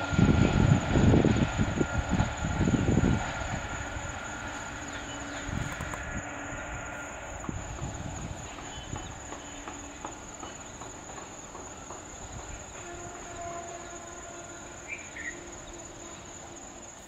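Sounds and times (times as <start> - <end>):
high-pitched insect drone: 0.0 - 17.0
train rumbling on track: 0.0 - 17.0.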